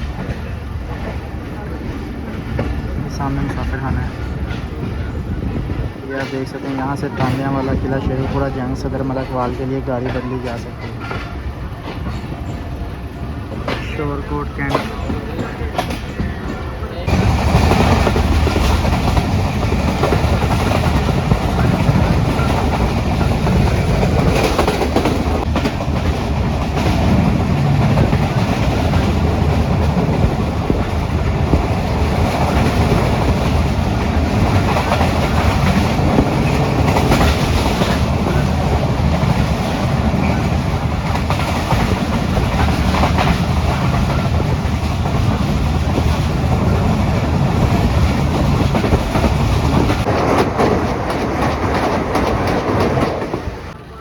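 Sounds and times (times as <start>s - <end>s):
train coaches rumbling: 0.0s - 54.0s
wheels clacking over rail joints: 0.0s - 54.0s.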